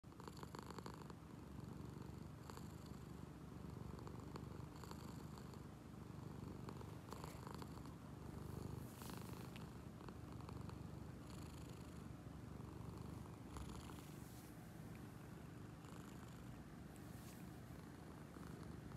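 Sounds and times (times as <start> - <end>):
cat purring: 0.1 - 18.9.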